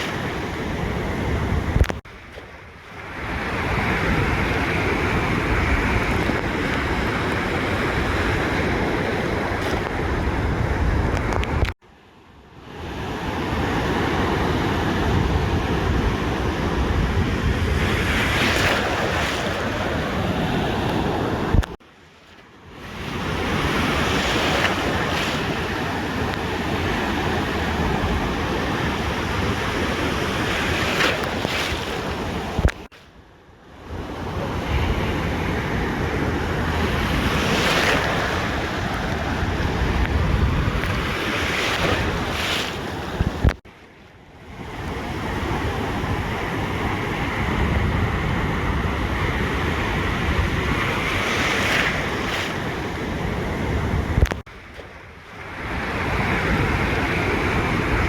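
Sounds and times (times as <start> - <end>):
wind on microphone: 0.0 - 11.8, 12.9 - 21.8, 22.7 - 33.0, 33.8 - 43.6, 44.4 - 58.0
ocean surf on beach: 0.0 - 58.0.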